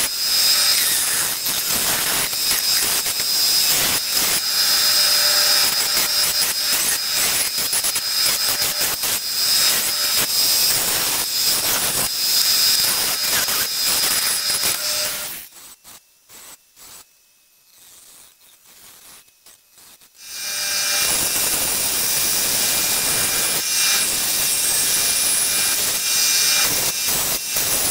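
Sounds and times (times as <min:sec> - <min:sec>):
bandsaw cutting wood: 0:00.0 - 0:15.4, 0:20.2 - 0:27.9.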